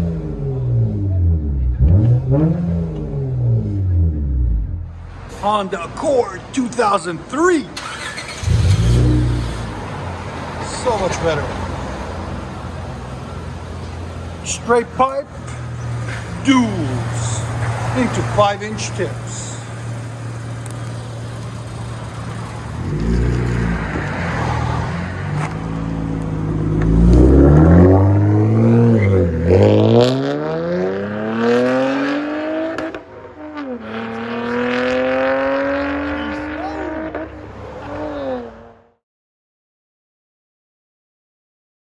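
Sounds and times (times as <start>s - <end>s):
car engine revving: 0.0s - 5.3s, 7.7s - 39.0s.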